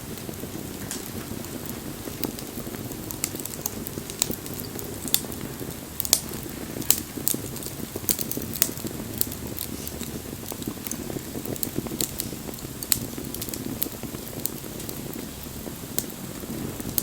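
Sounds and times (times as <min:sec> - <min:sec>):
fire crackles and pops: 0:00.0 - 0:17.0
rush of flame: 0:00.0 - 0:17.0.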